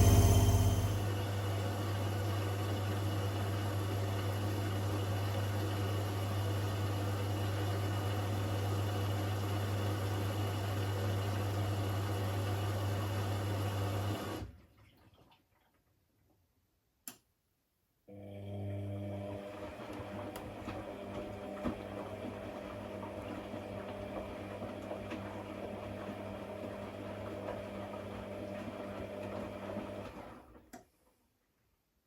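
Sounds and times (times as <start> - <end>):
washing machine humming: 0.0 - 14.4, 18.4 - 30.6.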